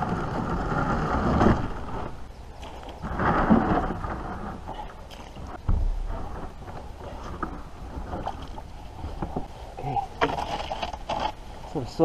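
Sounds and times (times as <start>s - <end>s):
kayak hull scraping over stony bank: 0.0s - 12.0s.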